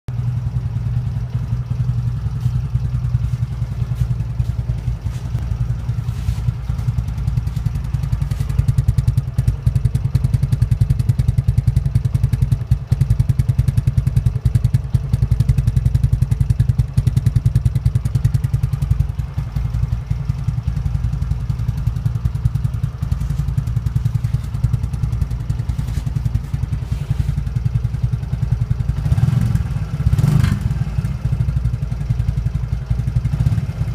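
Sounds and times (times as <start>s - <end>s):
motorcycle exhaust thumping: 0.1s - 33.9s.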